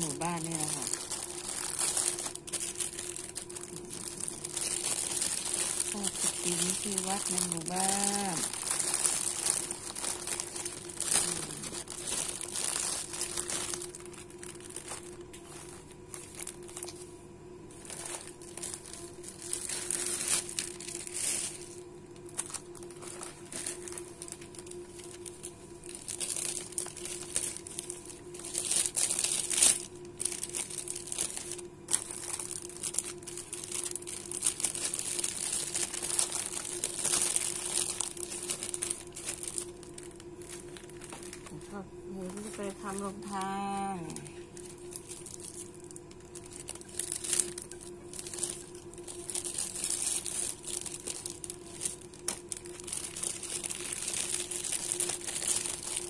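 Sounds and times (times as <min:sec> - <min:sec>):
faint steady hum: 0:00.0 - 0:56.0
plastic bags crinkling: 0:00.0 - 0:56.0.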